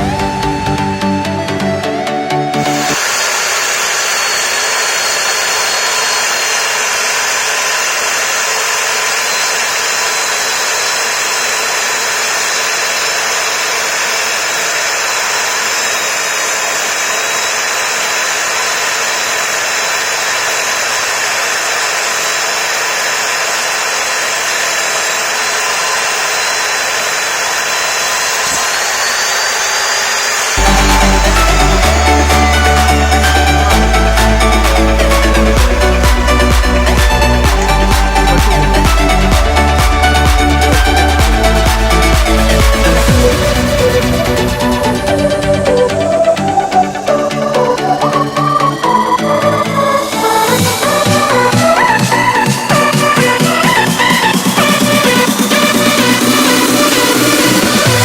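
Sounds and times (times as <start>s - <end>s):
miter saw whirring: 0.0s - 58.0s.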